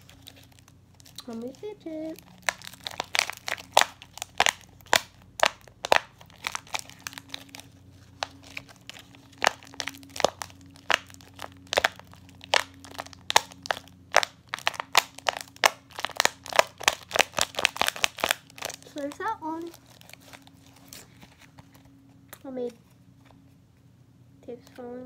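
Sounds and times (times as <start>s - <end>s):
fidget toy crinkly clicks: 0.0s - 21.7s.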